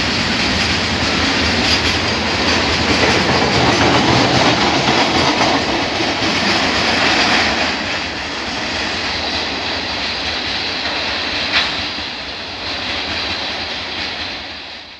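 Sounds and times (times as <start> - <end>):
freight train rolling on rails: 0.0 - 14.9.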